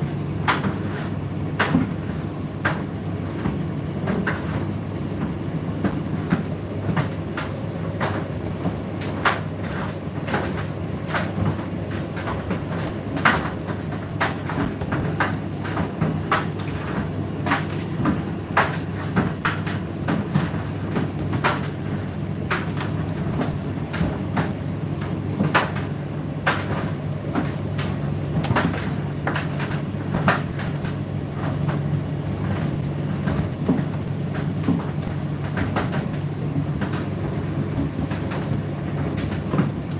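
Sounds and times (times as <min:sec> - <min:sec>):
tumble dryer motor hum: 0:00.0 - 0:39.9.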